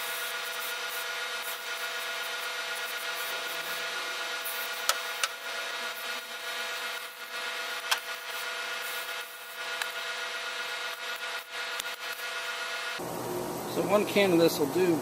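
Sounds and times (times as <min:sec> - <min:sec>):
aerosol can spraying hiss: 0:00.0 - 0:12.7.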